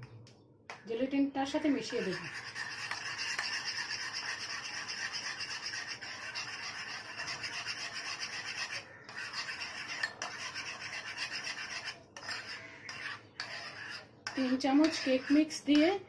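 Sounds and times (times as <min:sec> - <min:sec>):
spoon scraping inside a cup: 0:01.8 - 0:15.6.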